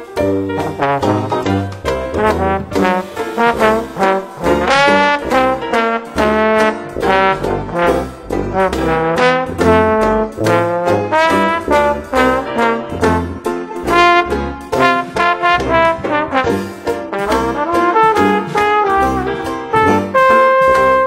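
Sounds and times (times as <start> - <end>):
brass jazz band playing: 0.0 - 21.0
steady bass beat: 0.2 - 21.0.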